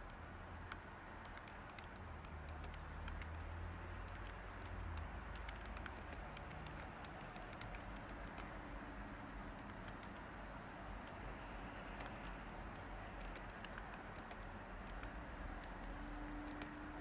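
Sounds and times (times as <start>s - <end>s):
keyboard typing clicks: 0.0s - 8.6s, 9.4s - 10.3s, 11.0s - 11.2s, 11.8s - 17.0s.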